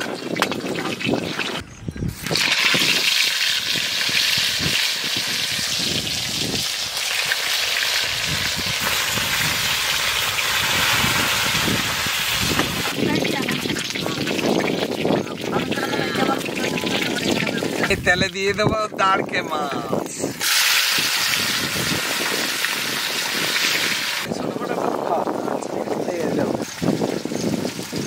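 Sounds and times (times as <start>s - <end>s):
fish sizzling in hot oil: 0.0s - 18.0s, 20.3s - 24.3s, 25.0s - 28.0s.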